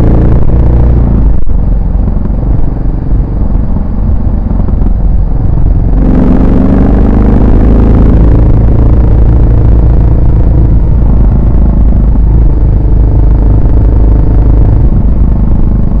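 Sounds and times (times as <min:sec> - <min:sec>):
motorcycle engine and exhaust: 0:00.0 - 0:16.0.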